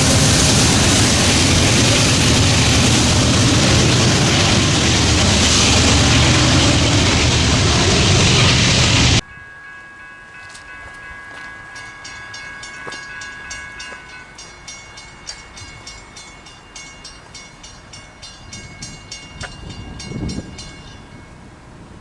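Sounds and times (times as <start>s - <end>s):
low train rumble: 0.0s - 9.3s, 12.0s - 22.0s
crossing bell ringing: 0.0s - 21.6s.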